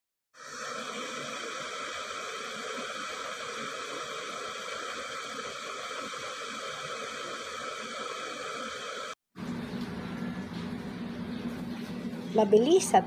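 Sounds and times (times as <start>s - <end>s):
electric kettle heating water: 0.4s - 11.4s.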